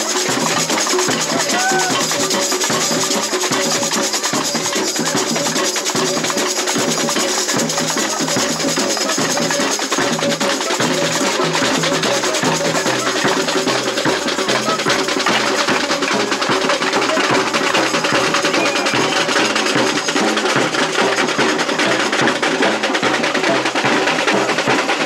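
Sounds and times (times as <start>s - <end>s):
sharp higher percussion: 0.0s - 25.0s.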